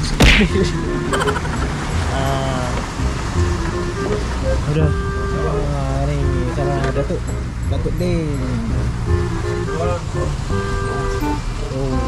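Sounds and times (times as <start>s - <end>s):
boat engine rumbling: 0.0s - 12.0s
water noise: 0.0s - 12.0s.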